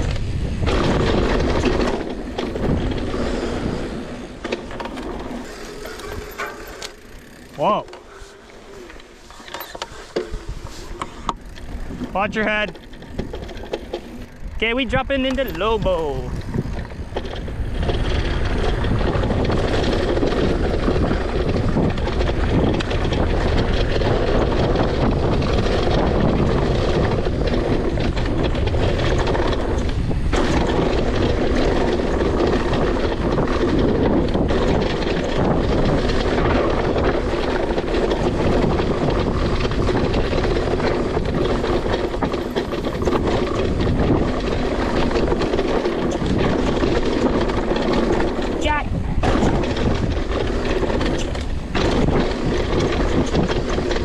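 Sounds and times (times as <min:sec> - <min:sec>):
bike rattle: 0:00.0 - 0:54.0
bike tyres on loose dirt: 0:00.0 - 0:54.0
wind buffeting microphone: 0:00.0 - 0:54.0.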